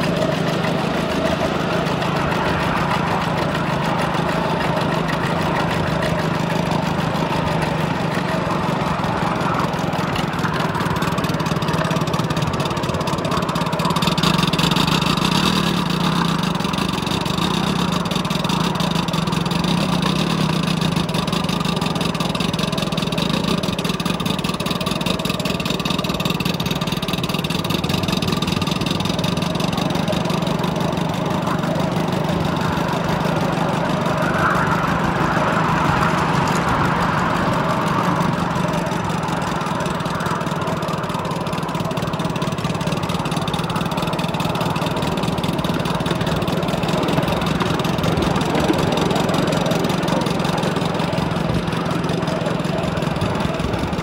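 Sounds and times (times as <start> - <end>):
steam locomotive exhaust beats: 0.0 - 54.0
wheels rolling on rails: 0.0 - 54.0.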